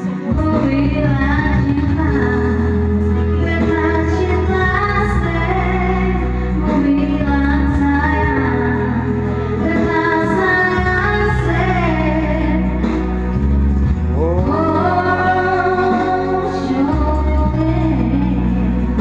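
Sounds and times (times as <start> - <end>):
woman singing: 0.0 - 13.4, 14.2 - 19.0
low bass accompaniment: 0.0 - 19.0.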